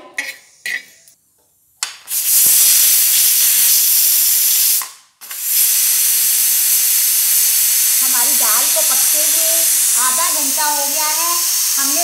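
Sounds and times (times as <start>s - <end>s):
pressure cooker steam hissing: 2.1s - 12.0s.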